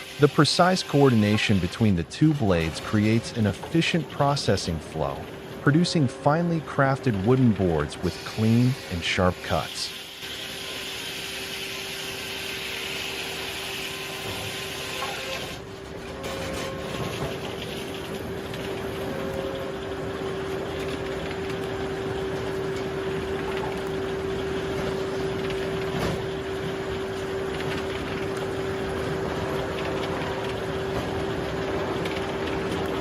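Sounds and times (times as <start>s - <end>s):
saw machine motor humming: 0.0s - 15.7s, 16.7s - 33.0s.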